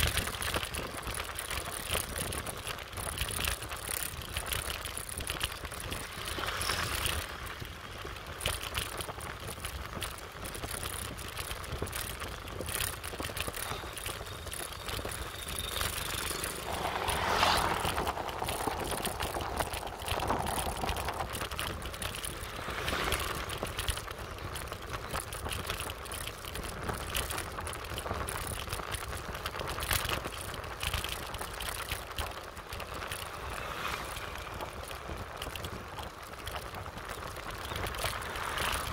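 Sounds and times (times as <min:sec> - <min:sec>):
bike rattles: 0:00.0 - 0:38.9
wind and road noise: 0:00.0 - 0:38.9.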